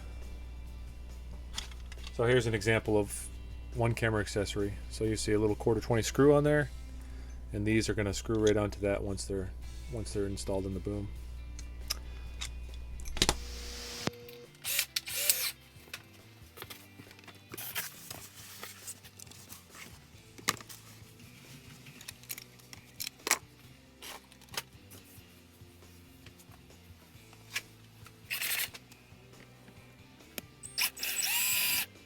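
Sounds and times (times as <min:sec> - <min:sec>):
background music: 0:00.0 - 0:32.0.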